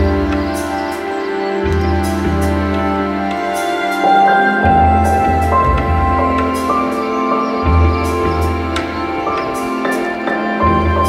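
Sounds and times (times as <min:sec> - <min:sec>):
calm ambient music: 0:00.0 - 0:11.0.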